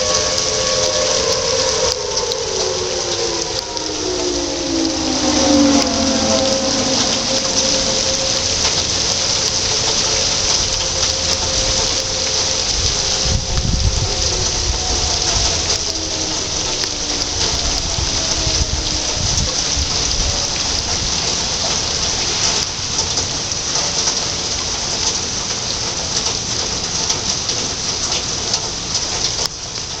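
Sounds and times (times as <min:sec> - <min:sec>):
warning siren winding down: 0:00.0 - 0:26.4
steady rain pouring: 0:00.0 - 0:30.0.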